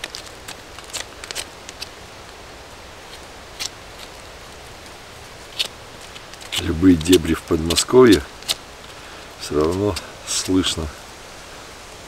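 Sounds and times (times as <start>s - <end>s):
knife scraping wood: 0.0s - 2.0s, 2.6s - 10.8s
distant background hiss: 0.6s - 12.0s.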